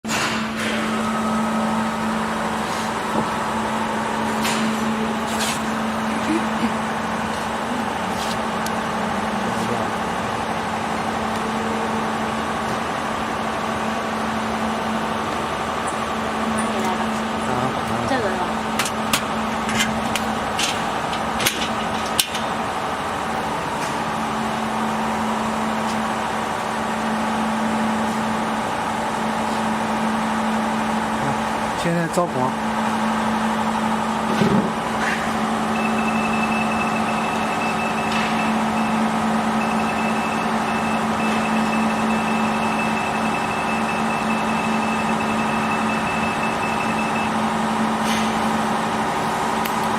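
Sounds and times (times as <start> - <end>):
fan-like noise: 0.0 - 49.9.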